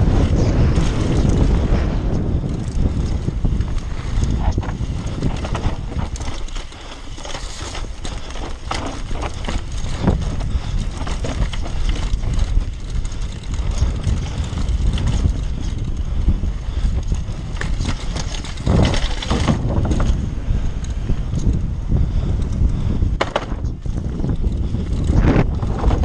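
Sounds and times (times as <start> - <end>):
tyres rumbling on dirt: 0.0 - 21.5
bike rattling: 0.0 - 26.0
wind buffeting microphone: 0.0 - 26.0.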